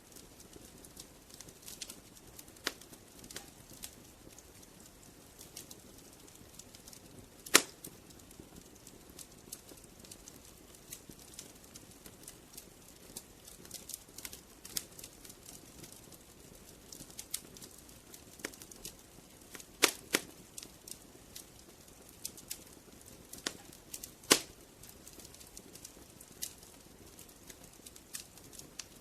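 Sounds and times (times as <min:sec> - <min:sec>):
soft low hiss: 0:00.0 - 0:29.0
wood fire crackling: 0:00.0 - 0:29.0.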